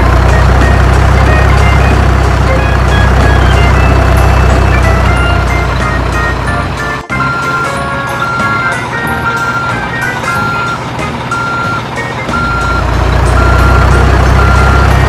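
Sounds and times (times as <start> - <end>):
low engine rumble: 0.0 - 15.0
truck reversing alarm beeping: 0.0 - 15.0.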